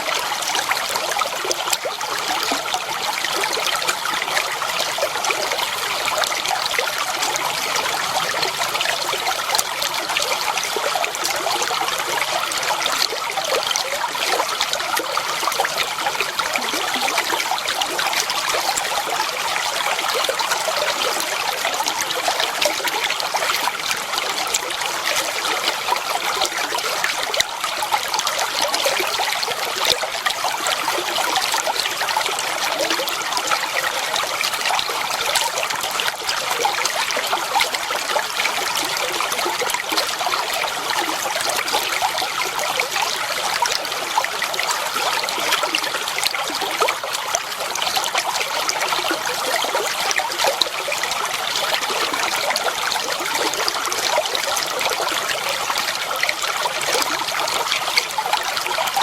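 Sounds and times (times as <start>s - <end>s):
water trickling over stones: 0.0s - 59.0s.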